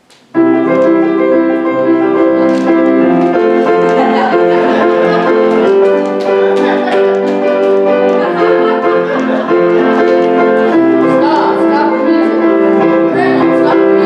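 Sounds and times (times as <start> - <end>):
instrumental music with held notes: 0.0 - 14.0.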